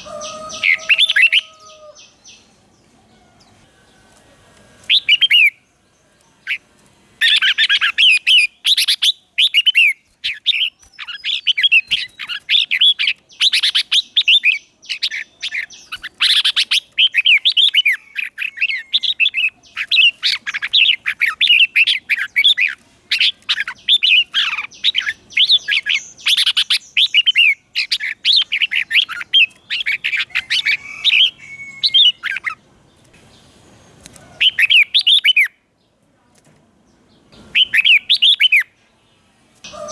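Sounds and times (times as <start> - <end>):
bird singing warbling phrases: 0.0 - 3.6, 4.8 - 33.2, 34.0 - 35.7, 37.2 - 38.8, 39.6 - 39.9.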